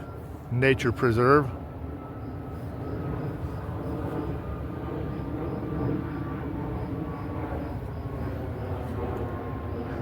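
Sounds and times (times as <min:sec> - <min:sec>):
airplane flying overhead: 0:00.0 - 0:10.0.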